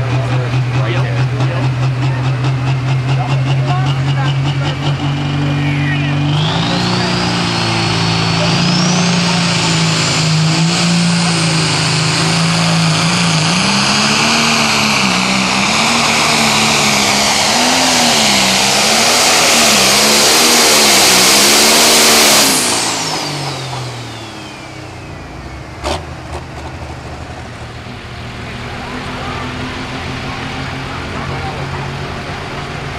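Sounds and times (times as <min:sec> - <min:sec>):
tractor engine at full throttle: 0:00.0 - 0:32.9
turbocharger whine: 0:00.0 - 0:32.9.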